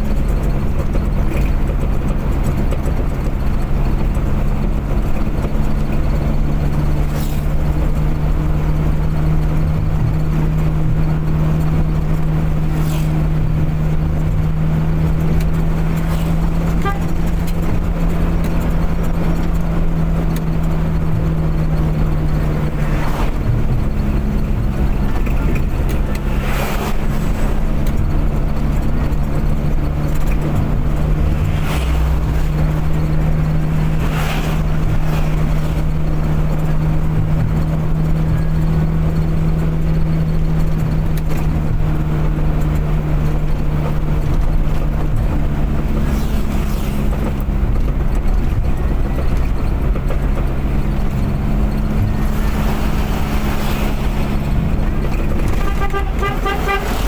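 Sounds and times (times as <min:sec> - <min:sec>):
car engine drone: 0:00.0 - 0:57.0
passing vehicle whooshes: 0:00.0 - 0:57.0
tyre and road noise: 0:00.0 - 0:57.0.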